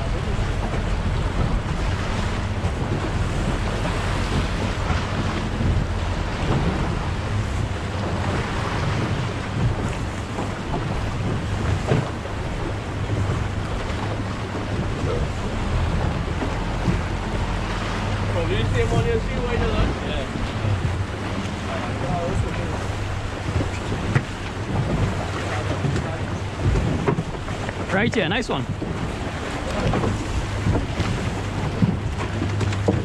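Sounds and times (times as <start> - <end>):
boat engine humming: 0.0 - 33.0
waves washing against boat: 0.0 - 33.0
wind buffeting microphone: 0.0 - 33.0.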